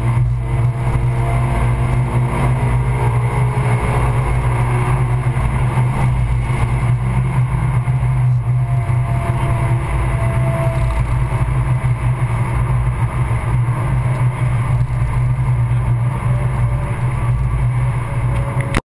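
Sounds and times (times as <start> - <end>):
car engine droning: 0.0 - 18.8
road and wind noise: 0.0 - 18.8.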